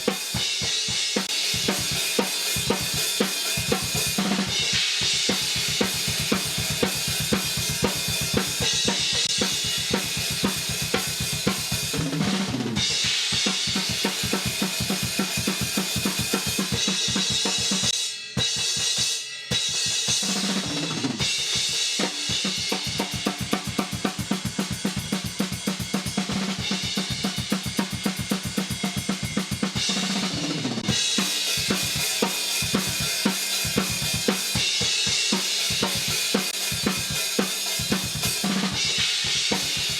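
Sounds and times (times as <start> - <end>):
fast metal drumming: 0.0 - 39.9.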